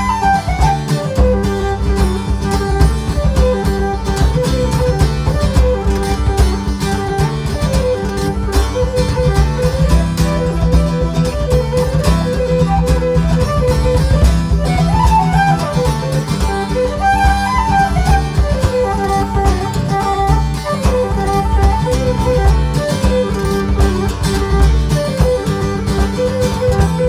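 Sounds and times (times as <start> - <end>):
string band instrumental: 0.0 - 27.0.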